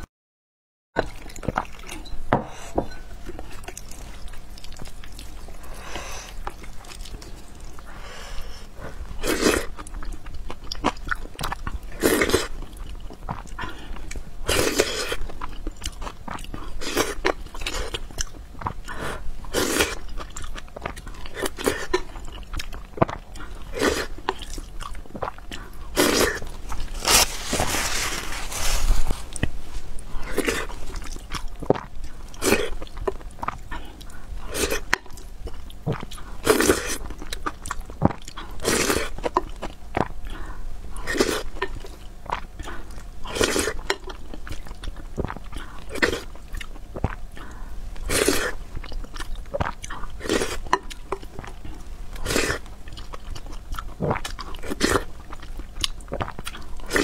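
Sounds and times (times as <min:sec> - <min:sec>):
chewing and eating: 0:01.0 - 0:02.2, 0:03.1 - 0:57.0.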